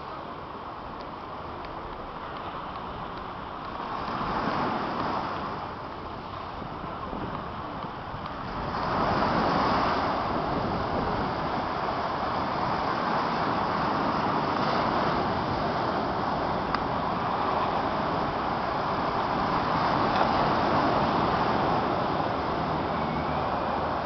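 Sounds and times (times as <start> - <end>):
sea surf on shore: 0.0 - 24.0.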